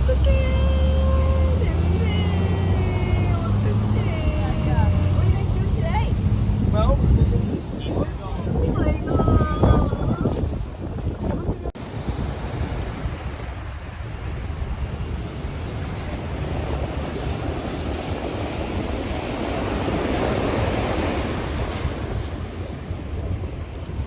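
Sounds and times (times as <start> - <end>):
ocean surf washing onto beach: 0.0 - 24.0
wind rumbling on microphone: 0.0 - 24.0.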